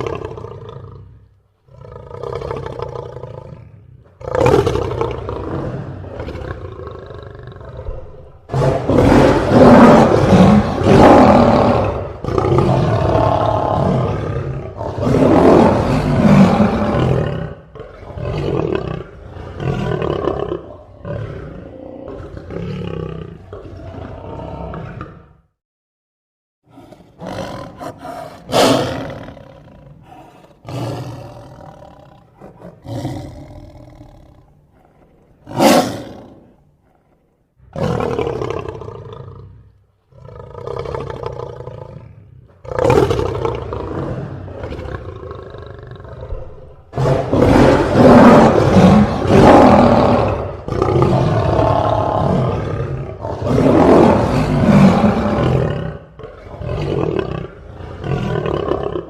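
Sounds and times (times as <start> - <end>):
lion roaring: 0.0 - 25.5, 26.7 - 59.0.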